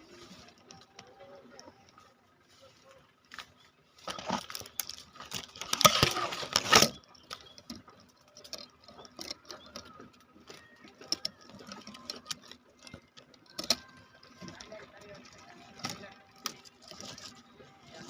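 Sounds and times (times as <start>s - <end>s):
leaves and stems rustling: 0.0s - 18.0s.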